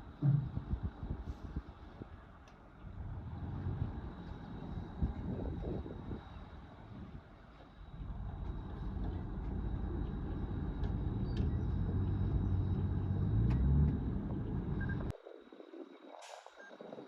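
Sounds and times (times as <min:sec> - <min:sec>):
bulldozer diesel engine rumbling: 0:00.0 - 0:15.1.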